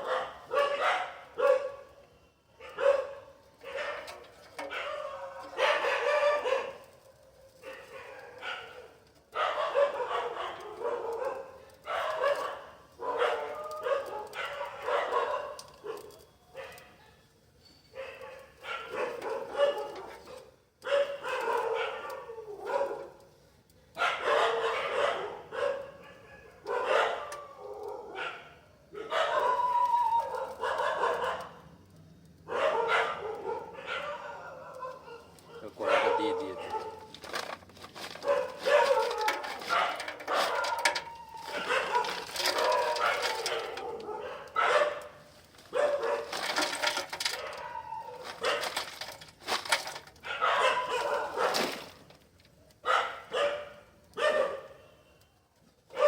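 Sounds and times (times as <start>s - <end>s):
dog barking: 0.0s - 2.0s, 2.6s - 17.2s, 17.9s - 23.2s, 24.0s - 31.6s, 32.5s - 37.1s, 38.0s - 52.0s, 52.8s - 54.8s.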